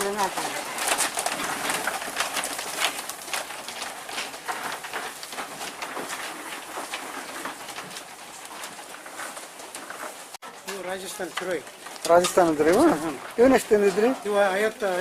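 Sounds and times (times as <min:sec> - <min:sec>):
patter of clicks and rustles: 0:00.0 - 0:15.0.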